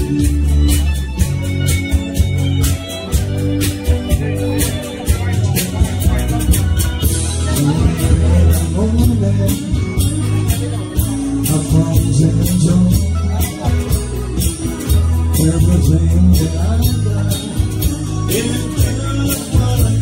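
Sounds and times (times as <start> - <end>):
deep bass notes: 0.0 - 20.0
guitar: 0.0 - 20.0
person singing: 3.8 - 20.0.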